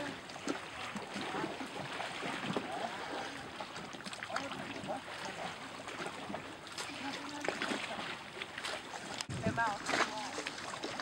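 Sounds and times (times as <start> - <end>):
water splashing around a boat: 0.0 - 11.0.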